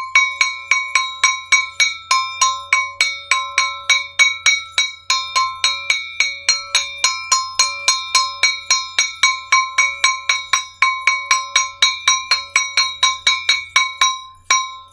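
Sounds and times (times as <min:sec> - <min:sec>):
hand gong beaten with stick: 0:00.0 - 0:14.9.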